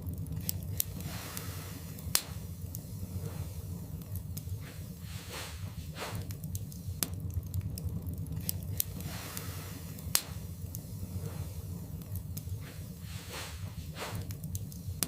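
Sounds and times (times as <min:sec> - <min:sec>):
crackles and pops of burning logs: 0:00.0 - 0:15.0
low rumble of flames: 0:00.0 - 0:15.0.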